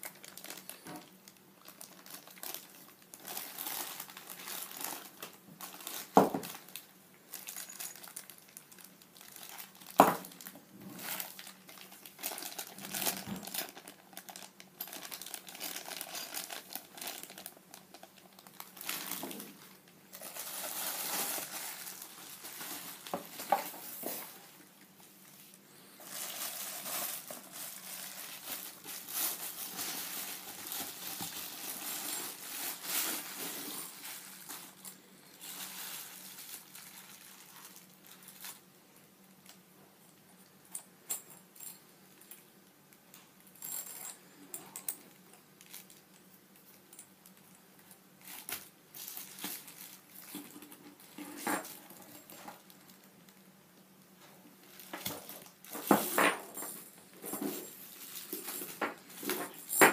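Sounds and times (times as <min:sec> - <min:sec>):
plastic packaging rustling: 0:00.0 - 0:38.7, 0:44.8 - 0:46.2, 0:46.9 - 0:53.5, 0:54.5 - 0:59.9.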